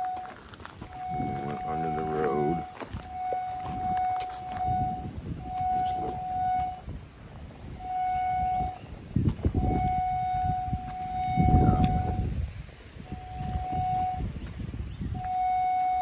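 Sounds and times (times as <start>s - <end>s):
cable locator signal tone: 0.0s - 6.9s, 7.7s - 12.4s, 13.0s - 14.4s, 15.1s - 16.0s
low rumbling noise: 0.0s - 16.0s.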